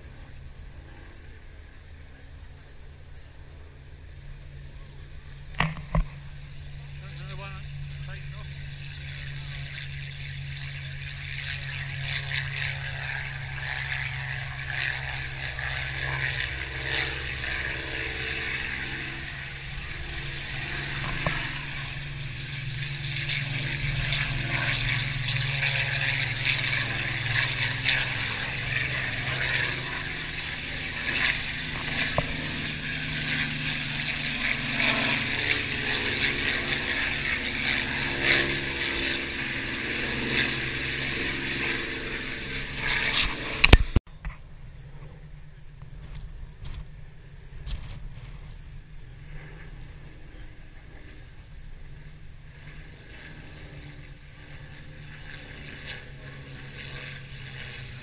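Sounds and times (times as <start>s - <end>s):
propeller aircraft engines running: 0.0s - 58.0s.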